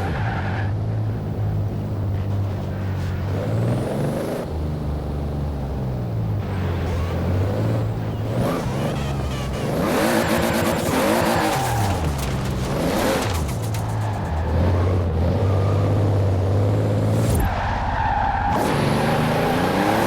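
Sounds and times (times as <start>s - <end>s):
car engine revving: 3.3s - 20.0s.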